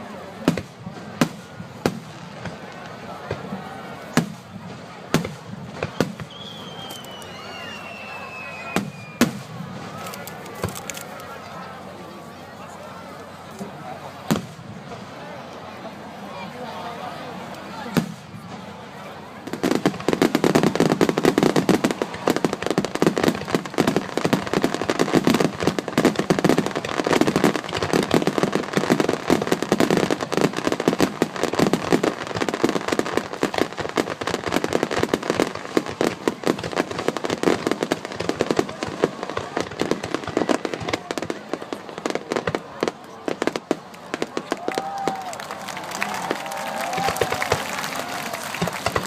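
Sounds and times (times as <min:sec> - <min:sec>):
fireworks bangs and crackles: 0:00.0 - 0:16.2, 0:17.0 - 0:49.0.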